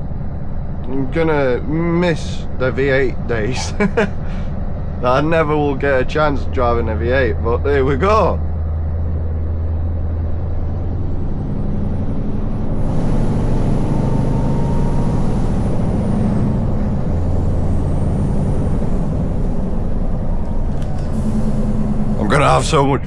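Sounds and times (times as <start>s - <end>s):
truck engine drone: 0.0s - 23.0s.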